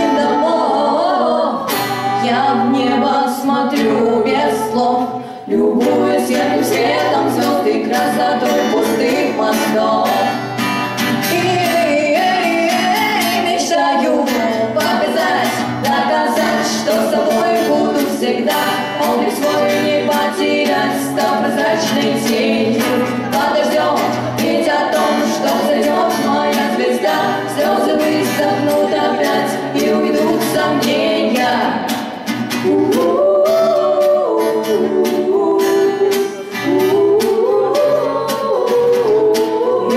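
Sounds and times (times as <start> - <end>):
strummed acoustic guitar: 0.0 - 39.9
women singing together: 0.0 - 39.9.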